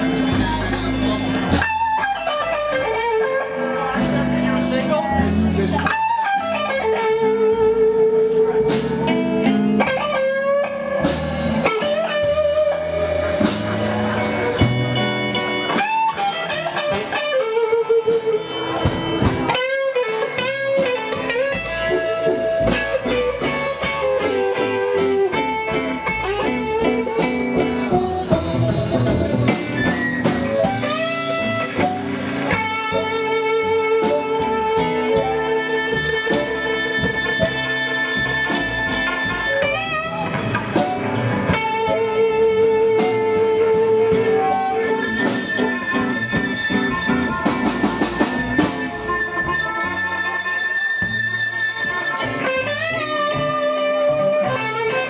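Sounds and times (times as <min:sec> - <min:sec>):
blues band playing: 0:00.0 - 0:55.0.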